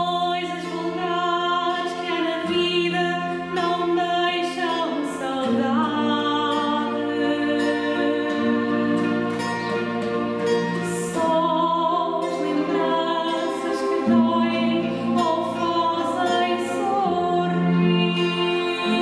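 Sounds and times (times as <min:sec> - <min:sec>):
woman singing with vibrato: 0:00.0 - 0:09.7, 0:10.7 - 0:19.0
classical guitars: 0:00.0 - 0:19.0
violins: 0:00.0 - 0:19.0.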